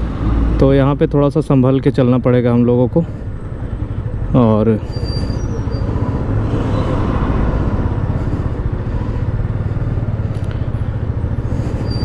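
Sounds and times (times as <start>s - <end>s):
motorcycle engines droning: 0.0s - 12.0s
road noise: 0.0s - 12.0s.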